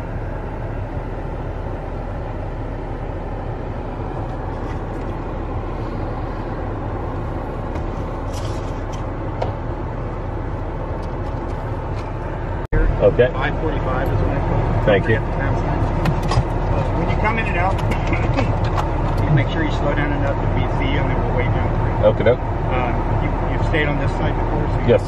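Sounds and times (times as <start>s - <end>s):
pickup truck idling: 0.0s - 25.0s.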